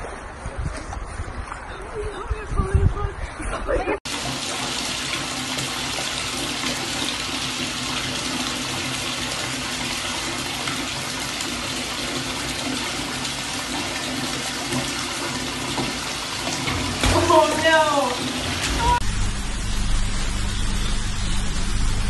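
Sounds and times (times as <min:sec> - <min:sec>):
running water in bathroom: 0:04.1 - 0:22.0.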